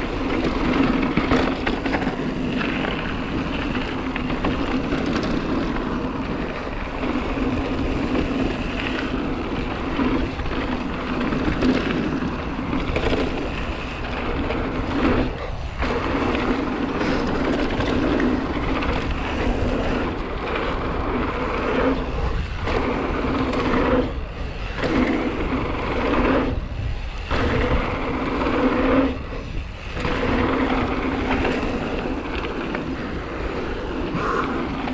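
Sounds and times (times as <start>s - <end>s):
bicycle freehub buzzing: 0.0s - 34.9s.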